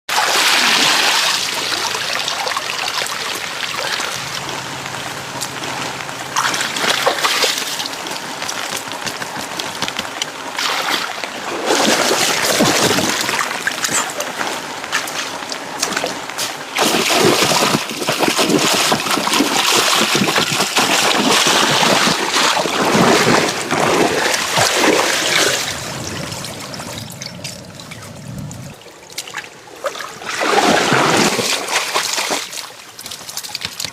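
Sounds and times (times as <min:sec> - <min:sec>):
water splashing and trickling: 0:00.1 - 0:33.9.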